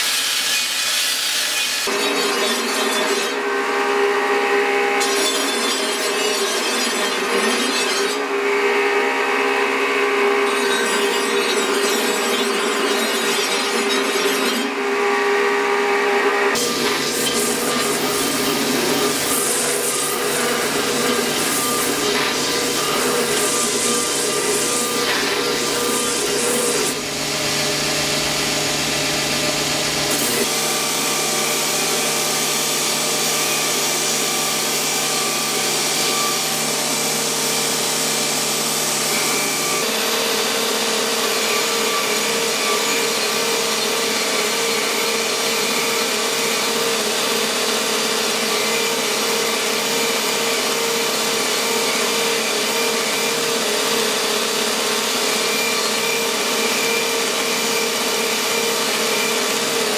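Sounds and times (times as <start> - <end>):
belt grinder grinding steel blade: 0.0 - 59.9.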